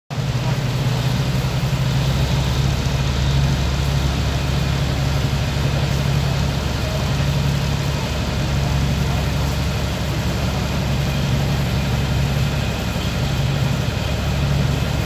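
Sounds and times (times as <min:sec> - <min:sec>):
boat engine droning: 0:00.1 - 0:15.0
wind: 0:00.1 - 0:15.0
water hissing: 0:00.2 - 0:15.0.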